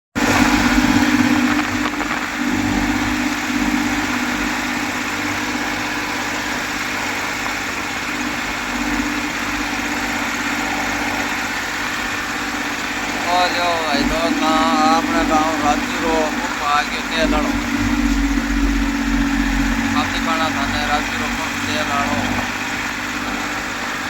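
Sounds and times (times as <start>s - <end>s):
tractor engine idling: 0.1s - 24.0s.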